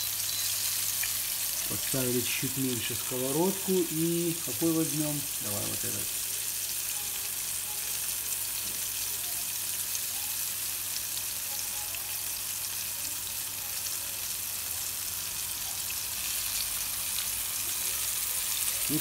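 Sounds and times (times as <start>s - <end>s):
tomato slices sizzling in oil: 0.0s - 19.0s.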